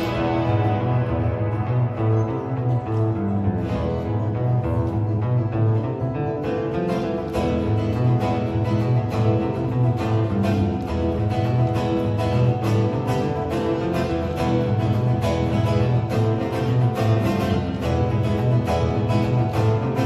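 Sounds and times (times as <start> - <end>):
acoustic guitar duet: 0.0 - 20.0.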